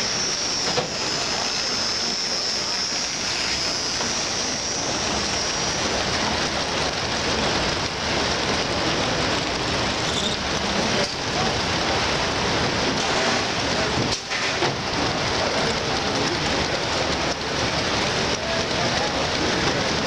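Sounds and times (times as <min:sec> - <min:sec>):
model train wheels clattering on rail: 0:00.0 - 0:20.0.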